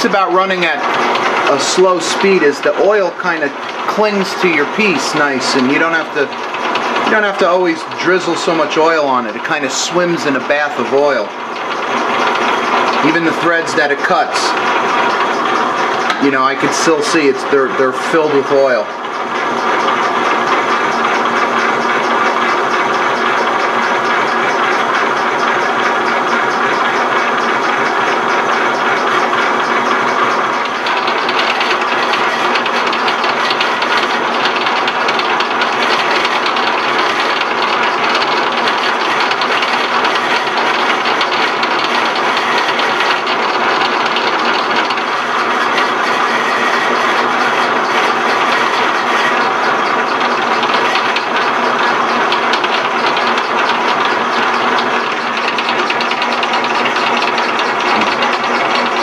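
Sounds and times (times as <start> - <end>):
lathe mechanical clatter: 0.0 - 59.0.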